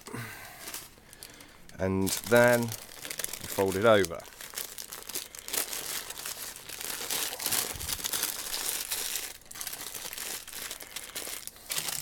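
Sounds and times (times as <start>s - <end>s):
baking paper crinkling: 0.0s - 12.0s.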